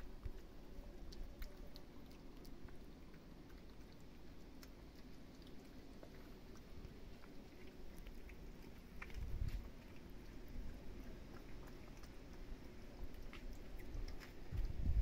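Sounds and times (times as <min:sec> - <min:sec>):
cats chewing crunchily: 0:00.0 - 0:15.0
low steady rumble: 0:00.0 - 0:15.0.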